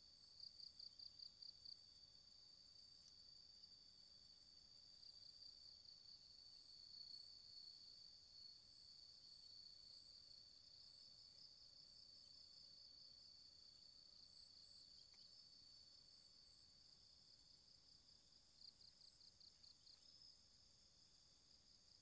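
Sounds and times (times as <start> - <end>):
insects chirring: 4.0 - 22.0.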